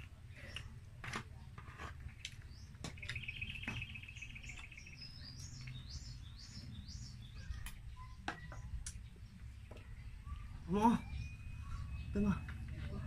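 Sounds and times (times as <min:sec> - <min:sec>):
small birds chirping: 0:00.0 - 0:00.8, 0:01.4 - 0:13.0
people eating with clicks and smacks: 0:00.0 - 0:10.6, 0:11.2 - 0:13.0.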